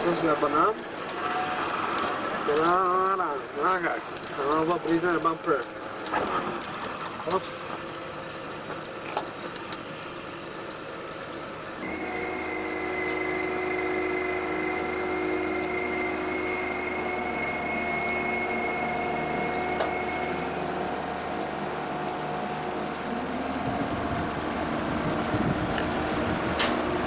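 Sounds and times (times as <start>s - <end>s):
ferry engine whine and hum: 0.0s - 27.0s.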